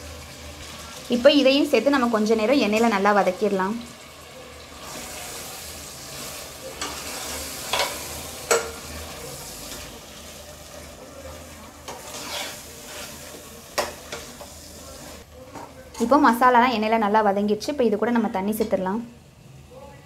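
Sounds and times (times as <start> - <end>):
food sizzling in oil: 0.0 - 19.7.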